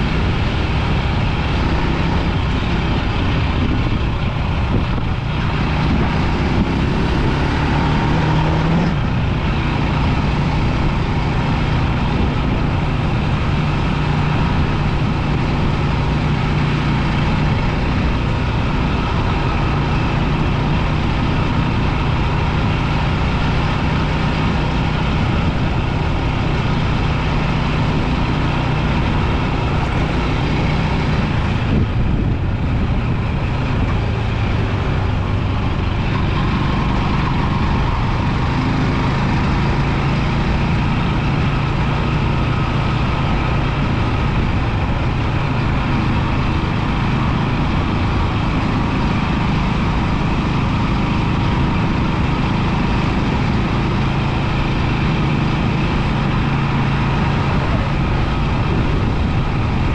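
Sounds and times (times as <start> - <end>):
motorbike engine hum: 0.0 - 59.9
wind and road noise: 0.0 - 59.9.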